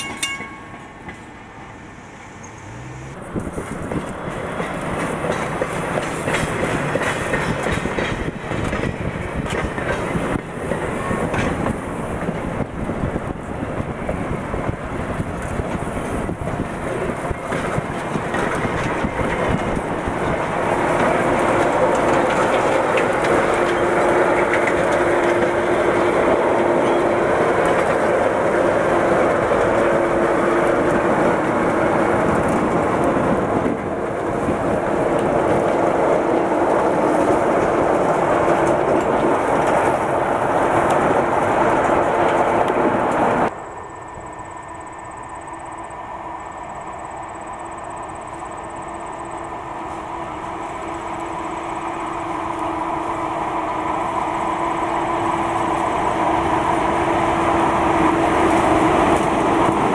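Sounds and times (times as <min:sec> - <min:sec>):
diesel locomotive engine: 0:00.0 - 0:59.9
steel wheels on rails: 0:00.0 - 0:59.9.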